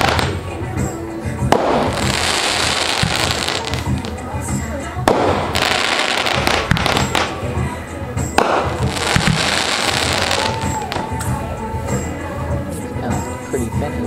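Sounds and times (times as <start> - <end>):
fireworks bangs and crackling: 0.0 - 12.1.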